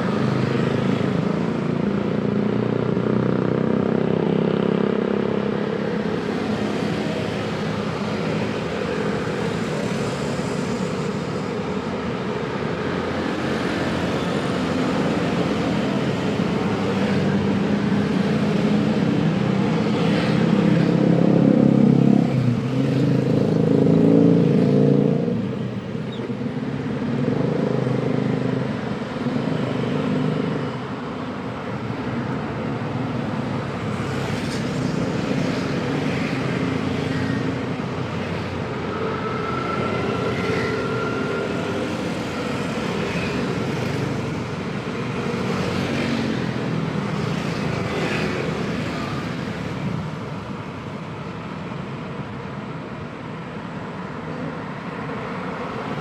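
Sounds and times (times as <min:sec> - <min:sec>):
vehicle engines passing: 0:00.0 - 0:56.0.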